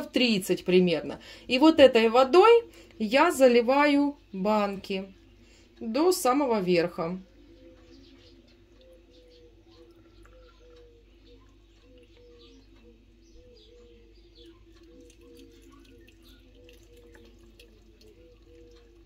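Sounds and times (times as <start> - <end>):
water trickling into jars: 0.0 - 19.0
soft repeating low notes: 1.7 - 19.0.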